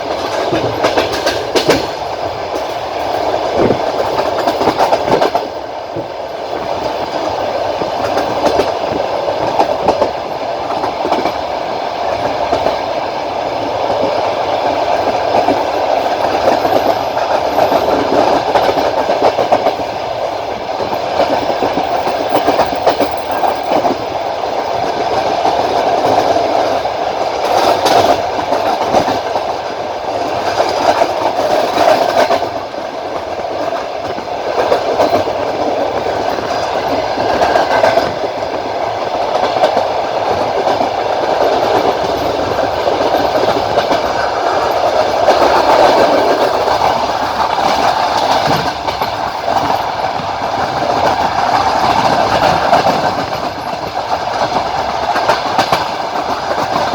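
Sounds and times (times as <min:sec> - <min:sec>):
wheels clattering over rail joints: 0:00.0 - 0:06.1, 0:13.6 - 0:56.9
train wheels rumbling on rails: 0:00.0 - 0:56.9.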